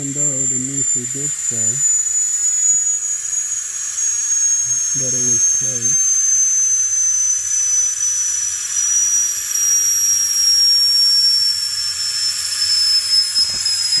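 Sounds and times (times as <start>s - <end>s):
gas hissing with whistle: 0.0s - 14.0s.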